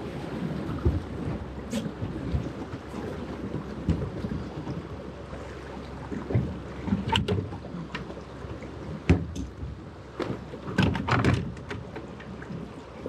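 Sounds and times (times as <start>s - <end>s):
knocks and clunks in a boat: 0.0s - 13.0s.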